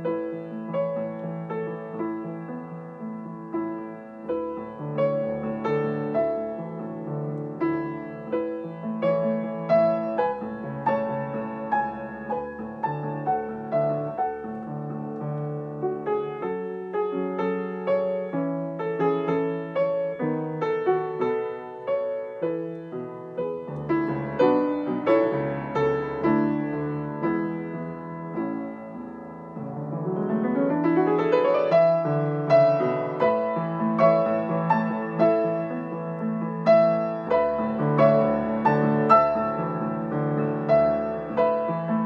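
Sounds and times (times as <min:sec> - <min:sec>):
solo piano piece: 0:00.0 - 0:42.0.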